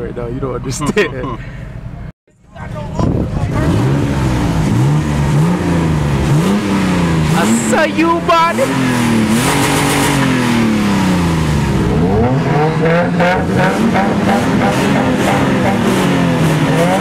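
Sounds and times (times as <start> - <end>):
car engine revving: 2.6 - 17.0.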